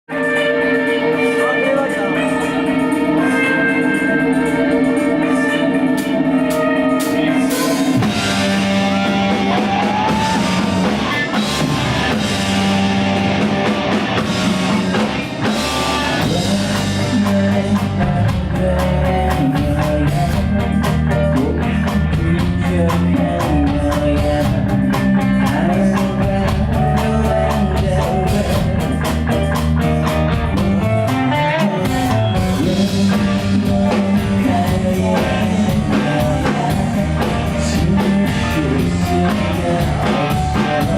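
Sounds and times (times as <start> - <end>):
rock band playing live: 0.1 - 40.9.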